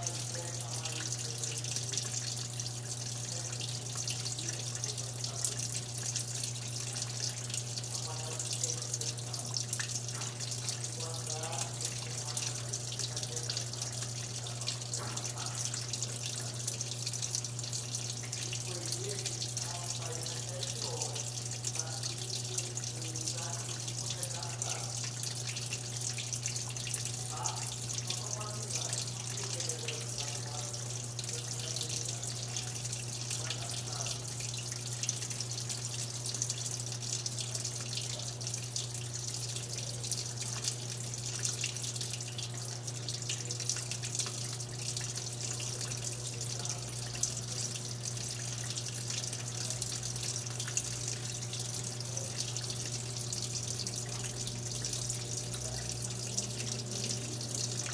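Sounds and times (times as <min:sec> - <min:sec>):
water filling washing machine: 0:00.0 - 0:57.9.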